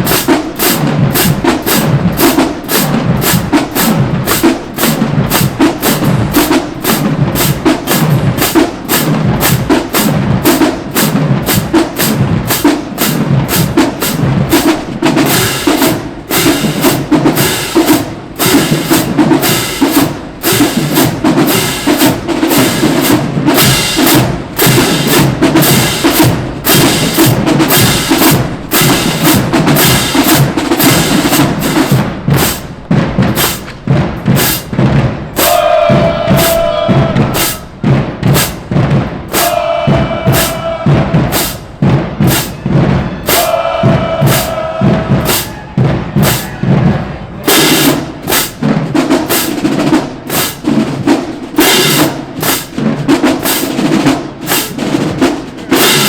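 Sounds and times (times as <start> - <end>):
drumline marching cadence: 0.0 - 56.0.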